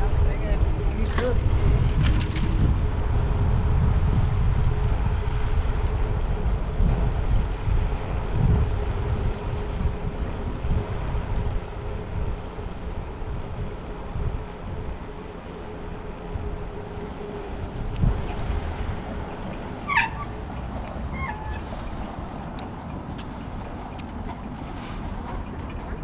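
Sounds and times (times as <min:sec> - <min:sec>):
low rumble of traffic: 0:00.0 - 0:26.0
wind buffeting microphone: 0:00.0 - 0:26.0.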